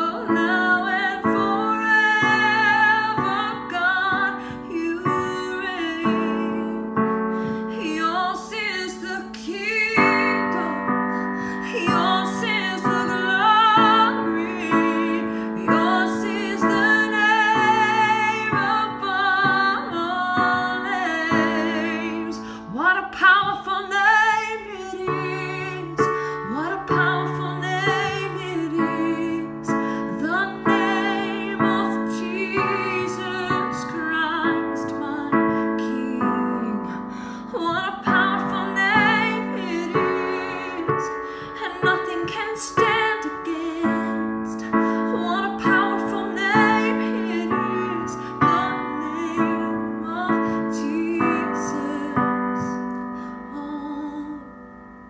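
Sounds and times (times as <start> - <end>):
woman singing with vibrato: 0.0 - 54.8
digital piano chords: 0.0 - 55.0.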